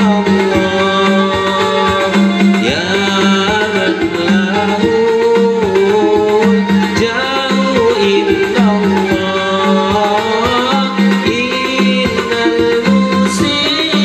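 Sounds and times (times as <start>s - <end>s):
backing track with hand drums: 0.0s - 14.0s
man singing into a microphone: 0.0s - 14.0s.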